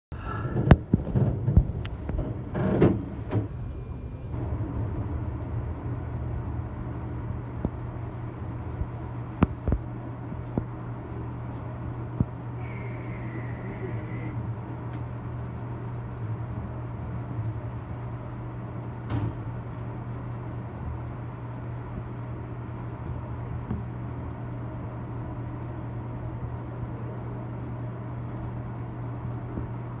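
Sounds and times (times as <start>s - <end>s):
subway station hum: 0.1s - 30.0s.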